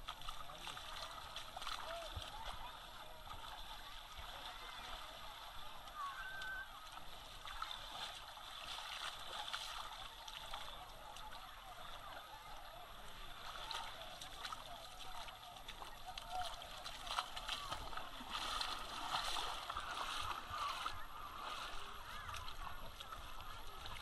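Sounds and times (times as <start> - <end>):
crowd of bathers talking: 0.0 - 24.0
water lapping at shoreline: 0.0 - 24.0.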